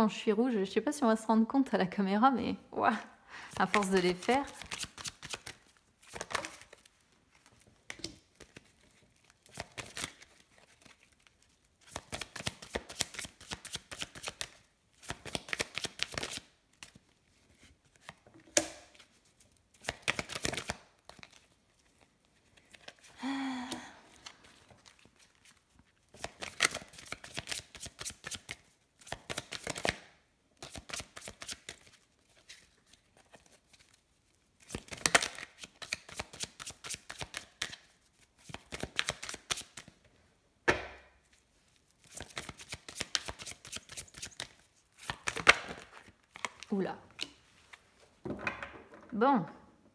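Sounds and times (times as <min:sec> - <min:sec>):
cards shuffling by hand: 0:03.5 - 0:40.1, 0:41.1 - 0:48.2.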